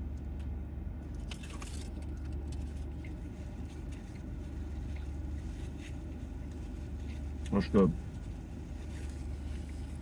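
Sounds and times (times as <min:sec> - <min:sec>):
motor vehicle rumble: 0:00.0 - 0:10.0.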